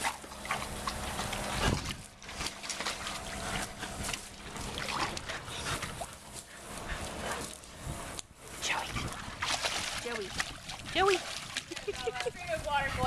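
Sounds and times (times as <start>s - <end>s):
water sloshing and splashing: 0.0s - 7.8s, 8.4s - 13.0s.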